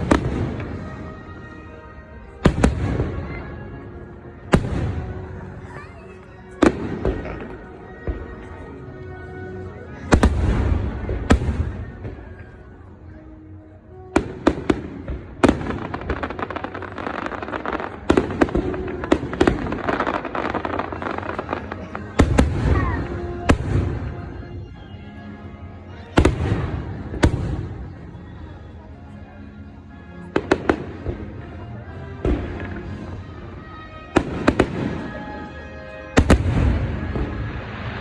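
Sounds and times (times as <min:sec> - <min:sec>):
fireworks booms and crackles: 0:00.0 - 0:09.0, 0:09.6 - 0:13.2, 0:14.0 - 0:24.8, 0:25.9 - 0:29.1, 0:30.3 - 0:38.0
music playing: 0:00.0 - 0:38.0.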